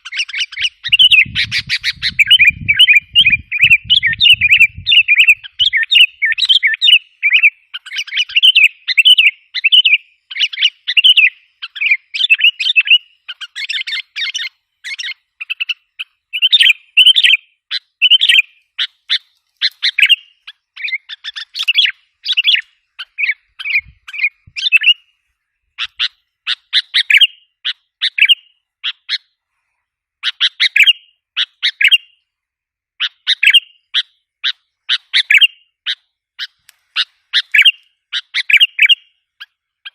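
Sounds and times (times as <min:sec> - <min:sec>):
bulbul chirping call: 0:00.0 - 0:25.1, 0:25.8 - 0:29.3, 0:33.0 - 0:39.9.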